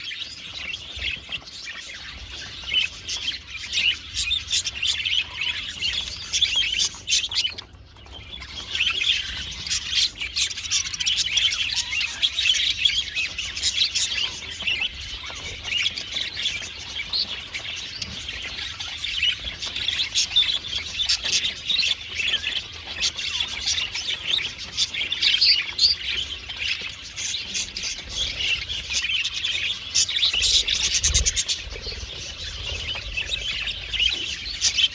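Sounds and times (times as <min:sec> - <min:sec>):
budgerigars chattering and chirping: 0:00.0 - 0:34.9.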